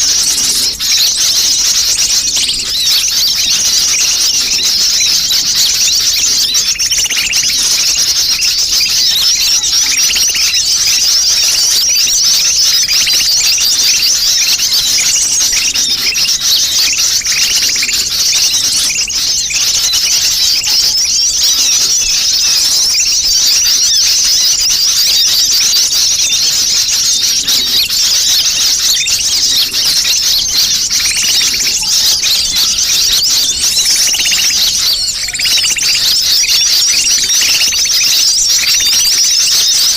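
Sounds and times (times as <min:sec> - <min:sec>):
birds chattering and twittering: 0:00.0 - 0:39.9.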